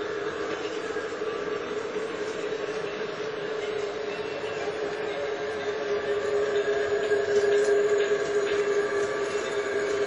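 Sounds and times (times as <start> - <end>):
model locomotive motors humming: 0.0 - 10.0
wheels rolling on track: 0.0 - 10.0.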